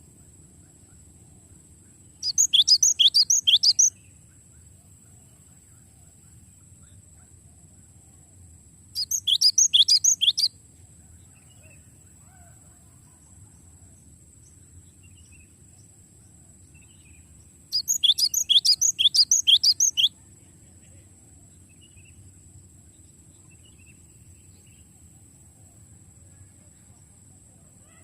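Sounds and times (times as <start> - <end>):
bird singing rolling trill: 0.7 - 6.7, 8.8 - 28.0.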